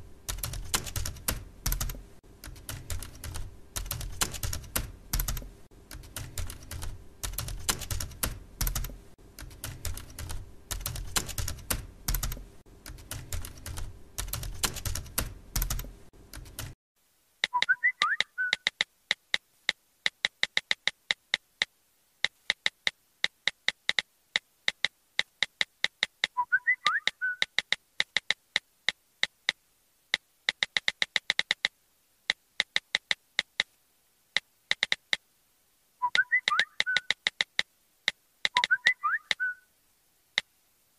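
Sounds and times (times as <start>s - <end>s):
keyboard typing clicks: 0.3s - 16.8s, 17.4s - 21.5s, 22.2s - 26.4s, 27.0s - 31.7s, 32.3s - 33.7s, 34.7s - 35.2s, 36.1s - 37.7s, 38.4s - 39.4s.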